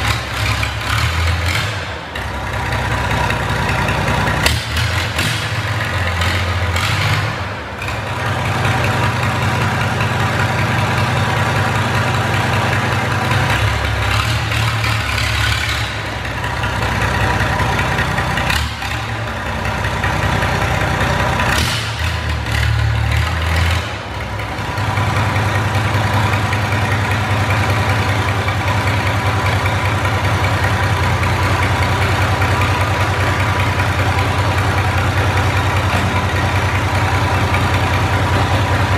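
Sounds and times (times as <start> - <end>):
truck engine revving and idling: 0.0 - 38.9.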